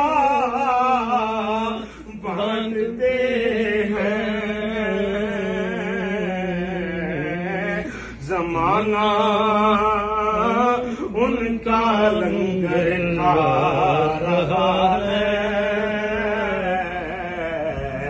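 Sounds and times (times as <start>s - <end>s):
men chanting: 0.0s - 18.0s.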